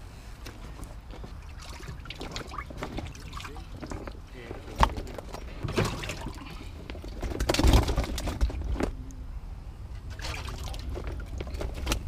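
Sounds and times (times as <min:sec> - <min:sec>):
water splashing and sloshing: 0:00.5 - 0:08.9, 0:10.0 - 0:12.0.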